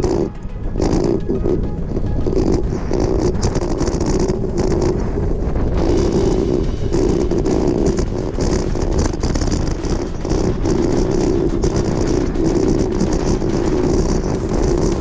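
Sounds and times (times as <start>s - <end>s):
bike tyres crunching on gravel: 0.0s - 15.0s
wind on microphone: 0.0s - 15.0s.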